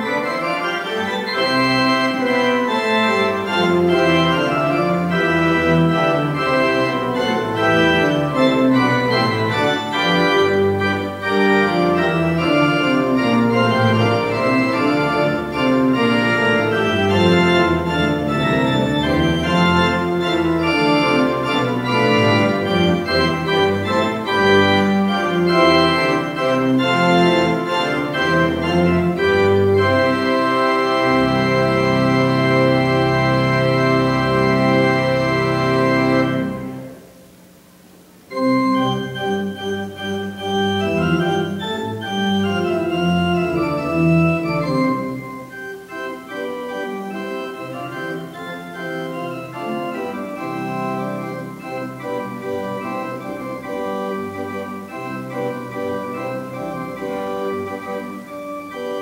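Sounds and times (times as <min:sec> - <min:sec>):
church pipe organ playing: 0:00.0 - 0:37.4, 0:38.2 - 0:59.0.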